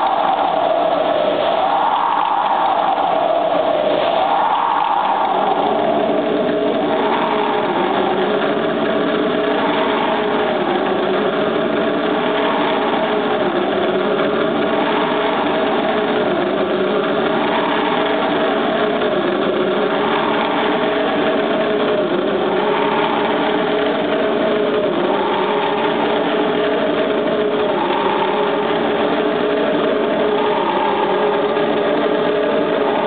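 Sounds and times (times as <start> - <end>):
low sustained drone: 0.0 - 33.0.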